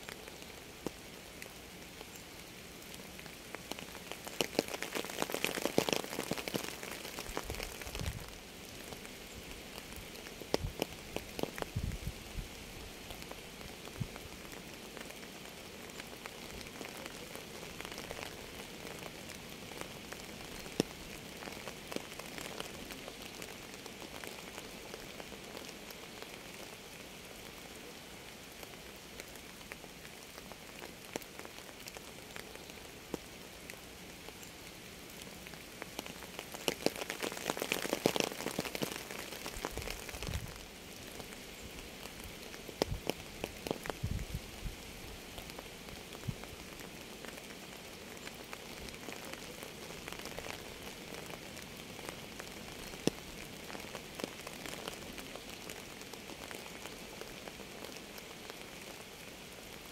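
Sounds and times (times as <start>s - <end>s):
raindrops ticking: 0.0s - 11.8s, 12.9s - 27.7s, 28.4s - 44.6s, 45.2s - 59.9s
rain falling: 0.0s - 59.9s.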